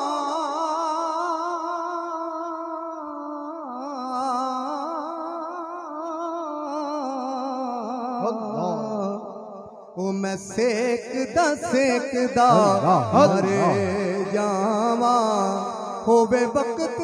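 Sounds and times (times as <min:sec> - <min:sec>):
man singing with vibrato: 0:00.0 - 0:17.0.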